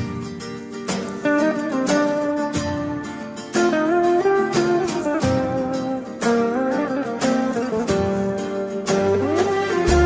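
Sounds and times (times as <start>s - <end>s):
plucked string melody: 0.0s - 10.0s
held notes: 1.2s - 10.0s.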